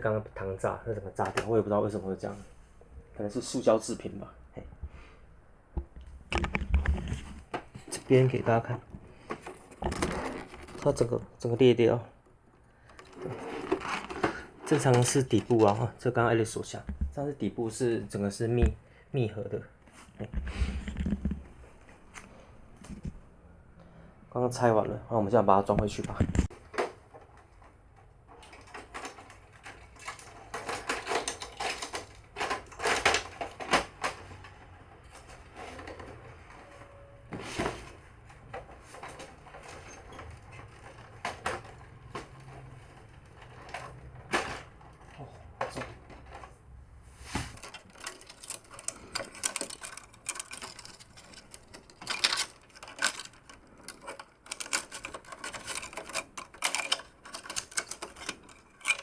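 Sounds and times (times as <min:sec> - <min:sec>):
plastic printer parts clattering: 0:01.1 - 0:02.4, 0:05.8 - 0:18.8, 0:20.1 - 0:23.2, 0:25.4 - 0:46.7, 0:47.3 - 0:59.0.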